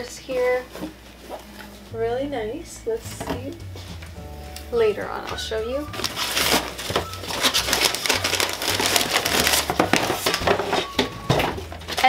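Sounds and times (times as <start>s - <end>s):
paper packaging rustling: 0.0s - 2.1s, 3.2s - 12.0s.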